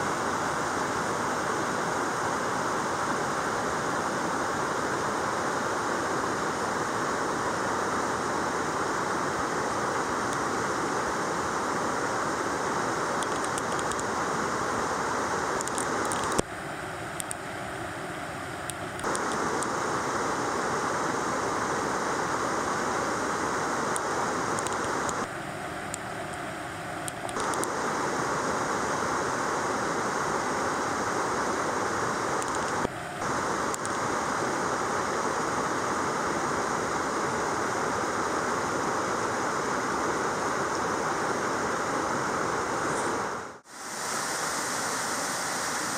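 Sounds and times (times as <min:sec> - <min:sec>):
stream and waterfall rushing: 0:00.0 - 0:45.9.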